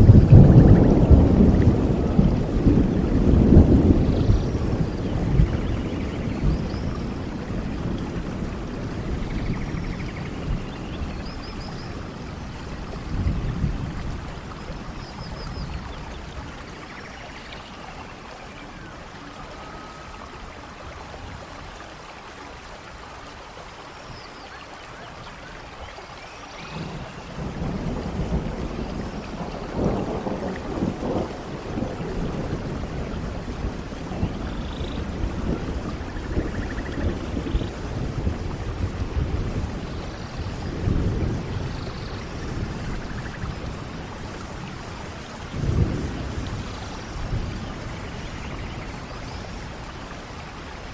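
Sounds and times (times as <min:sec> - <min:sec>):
thunder rumbling: 0:00.0 - 0:17.0, 0:26.6 - 0:50.9
heavy rain falling: 0:00.0 - 0:50.9.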